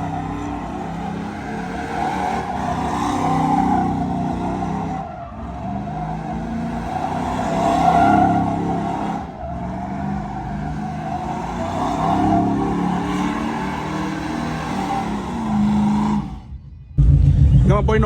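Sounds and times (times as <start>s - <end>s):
engine revving hard: 0.0s - 16.6s
tires squealing: 0.0s - 16.7s.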